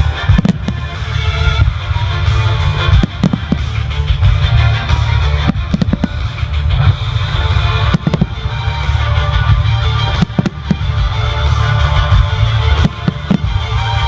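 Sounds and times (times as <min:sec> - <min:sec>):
bass and guitar music over loudspeakers: 0:00.0 - 0:14.0
firework bangs and crackles: 0:00.0 - 0:14.0.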